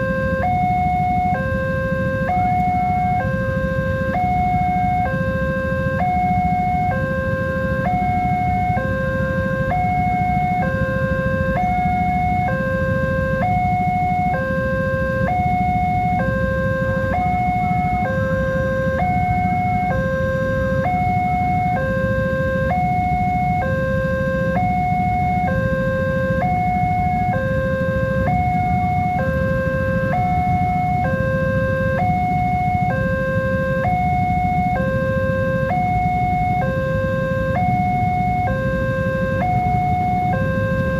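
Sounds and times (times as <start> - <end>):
two-tone warning alarm: 0.0 - 40.9.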